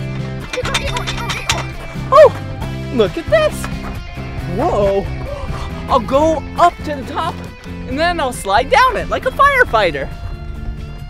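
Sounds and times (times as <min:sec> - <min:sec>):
held low music notes: 0:00.0 - 0:11.0.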